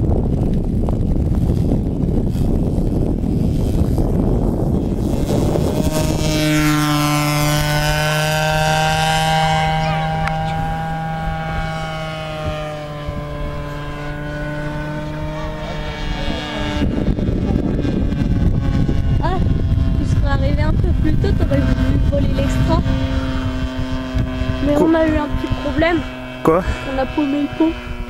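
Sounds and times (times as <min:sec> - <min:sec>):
model plane engine buzzing: 0:00.0 - 0:28.0.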